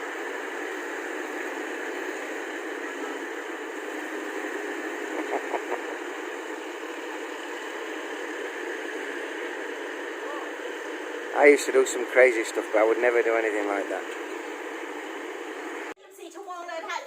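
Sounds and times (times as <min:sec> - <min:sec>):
combine harvester droning: 0:00.0 - 0:16.0.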